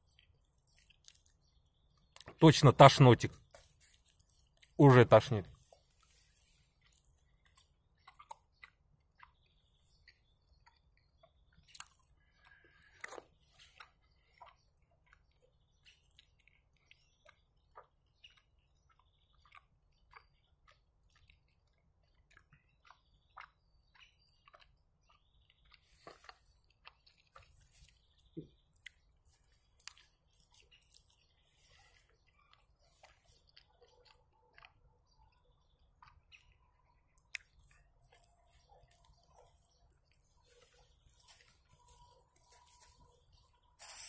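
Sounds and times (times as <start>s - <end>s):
chewing with mouth clicks and smacks: 0.0s - 2.5s, 3.3s - 44.0s.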